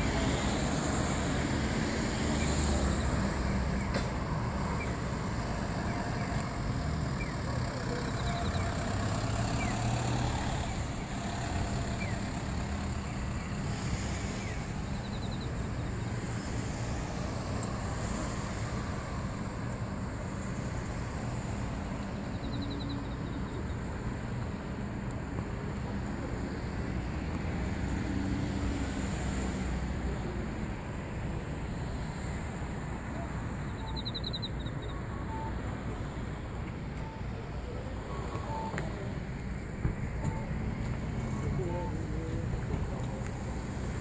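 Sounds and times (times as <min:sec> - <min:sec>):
cars passing on street: 0:00.0 - 0:44.0.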